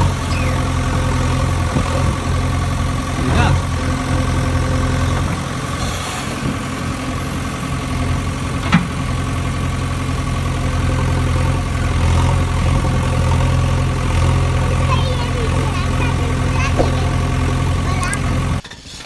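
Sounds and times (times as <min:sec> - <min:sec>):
engine idling: 0:00.0 - 0:18.6.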